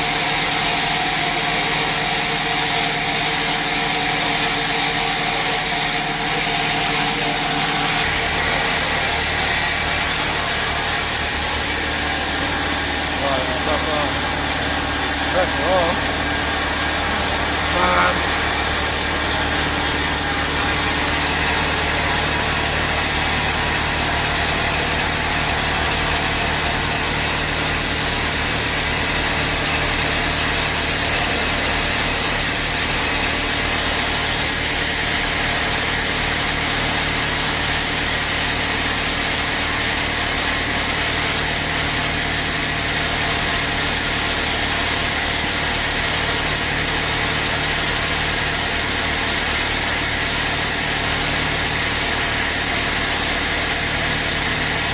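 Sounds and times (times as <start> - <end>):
bandsaw machinery running: 0.0 - 54.9.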